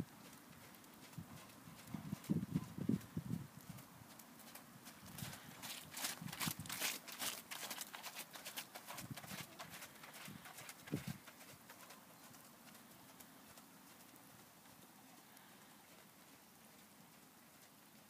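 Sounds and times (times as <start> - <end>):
faint steady hiss: 0.0 - 18.0
horse hoofbeats: 0.0 - 18.0.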